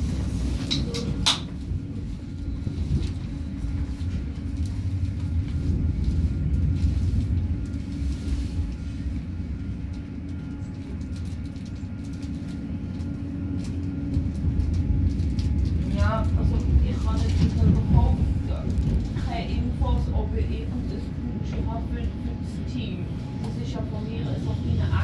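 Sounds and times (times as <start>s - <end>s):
train rumble from inside carriage: 0.0s - 25.0s.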